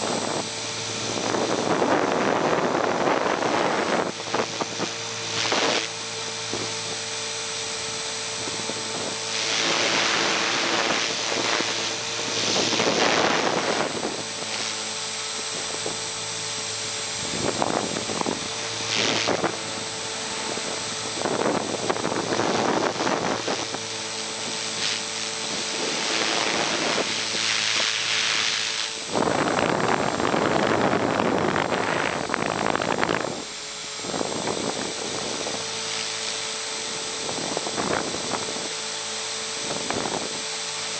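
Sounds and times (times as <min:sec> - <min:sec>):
rc helicopter motor whine: 0:00.0 - 0:40.9
wind noise on microphone: 0:00.0 - 0:40.9.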